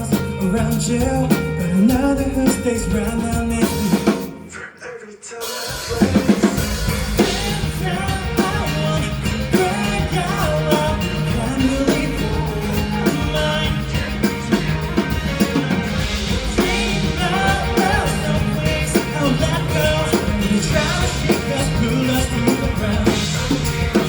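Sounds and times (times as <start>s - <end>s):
bass: 0.0s - 4.4s, 5.7s - 24.0s
drum kit: 0.0s - 4.6s, 5.4s - 24.0s.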